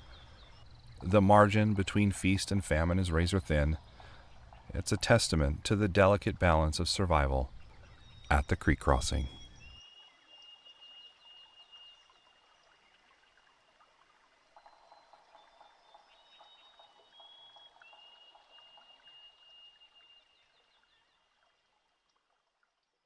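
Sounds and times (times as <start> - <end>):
trickling water: 0.0 - 23.0.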